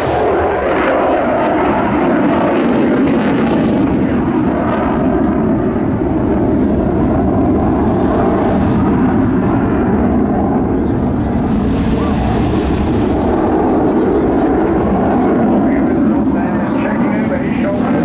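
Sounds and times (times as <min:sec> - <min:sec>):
fighter jet engine roar: 0:00.0 - 0:18.0.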